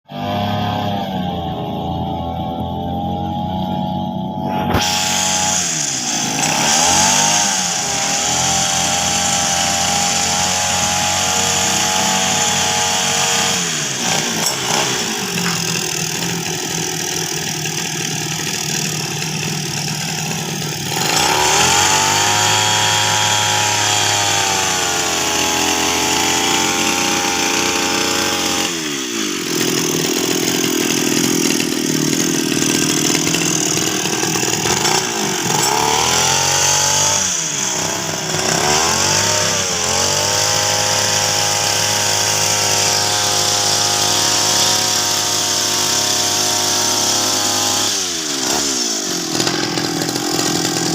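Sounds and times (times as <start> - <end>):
brush cutter engine running: 0.1 - 50.9.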